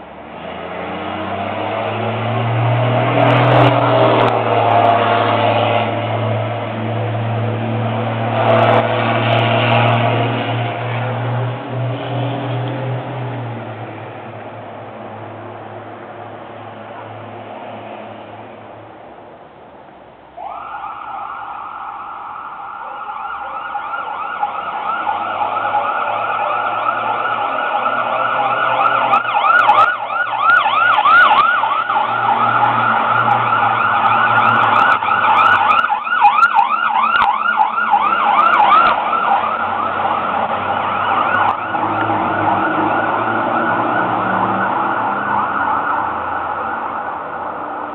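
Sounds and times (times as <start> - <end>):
fire truck siren: 0.0 - 13.7, 20.4 - 47.9.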